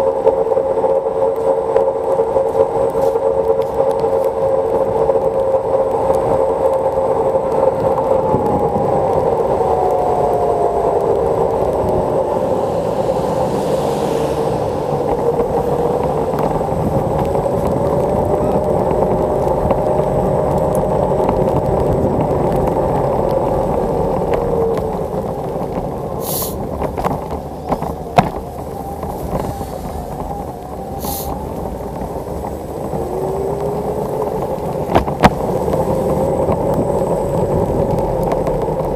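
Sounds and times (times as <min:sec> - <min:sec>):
scooter rolling on wet pavement: 0:00.0 - 0:38.9.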